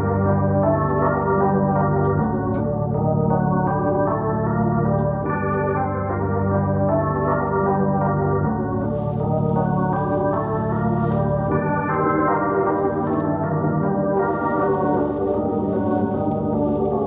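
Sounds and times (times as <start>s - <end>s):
organ-like keyboard chords: 0.0s - 17.0s.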